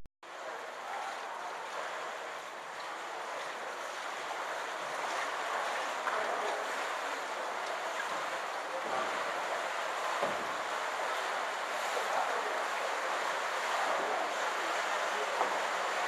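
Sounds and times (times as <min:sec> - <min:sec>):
indoor pool ambience: 0:00.2 - 0:16.0
water splashing and lapping: 0:00.2 - 0:16.0.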